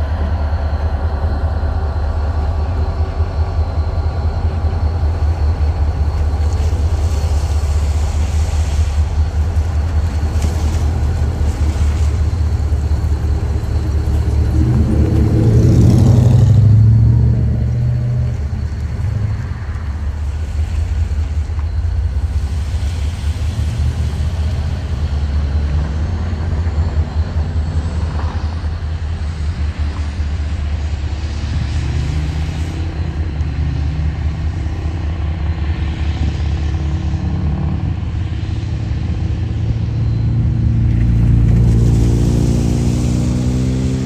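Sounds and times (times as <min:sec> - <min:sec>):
vehicle engine rumble: 0:00.0 - 0:44.0.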